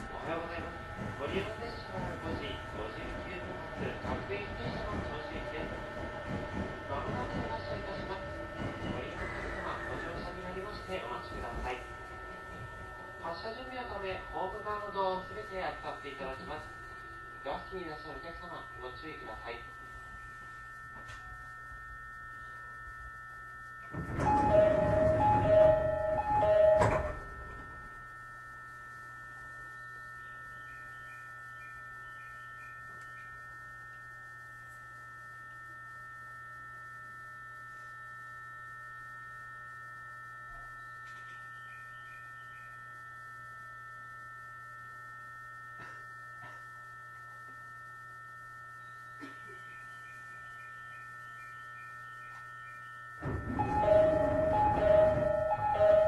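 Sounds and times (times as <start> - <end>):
high electrical whine: 0.0 - 56.0
low electrical hum: 0.0 - 56.0
two-tone alternating signal: 0.0 - 56.0.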